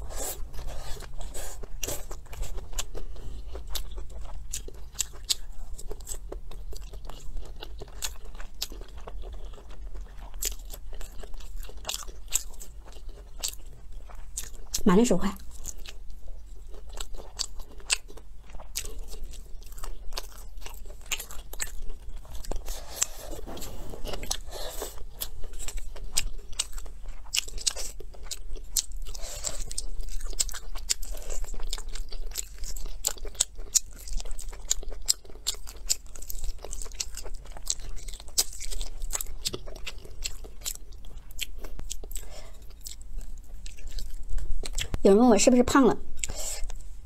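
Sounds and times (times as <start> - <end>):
chewing and crunching food: 0.0 - 47.0.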